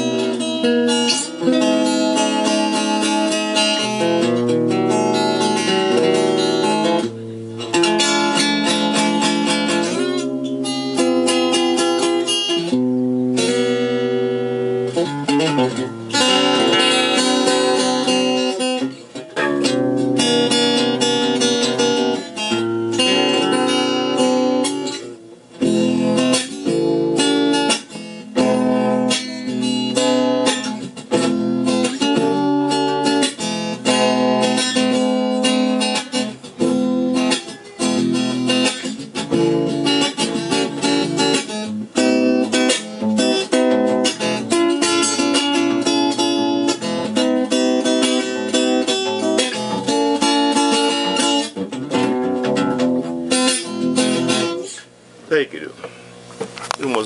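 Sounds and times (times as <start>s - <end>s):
acoustic guitar through amplifier: 0.0s - 57.0s.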